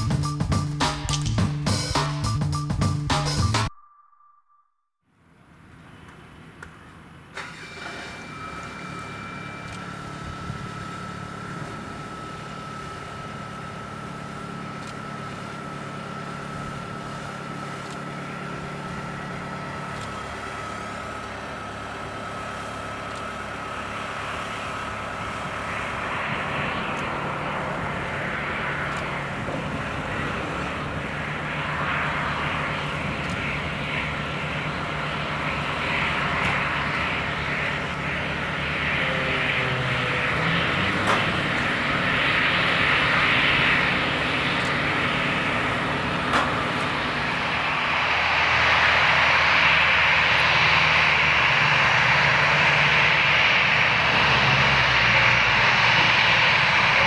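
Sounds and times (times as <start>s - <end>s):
jet engines whining and roaring: 0.0s - 3.7s, 5.3s - 57.0s.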